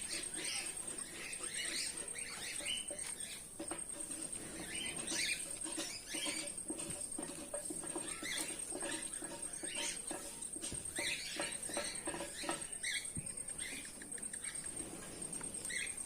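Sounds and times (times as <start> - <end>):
light scratching and pattering: 0.0 - 16.0.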